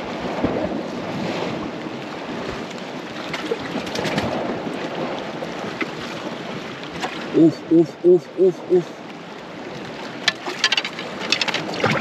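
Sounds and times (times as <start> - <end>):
wind on microphone: 0.0 - 10.4
sea waves washing against rocks: 0.0 - 12.0.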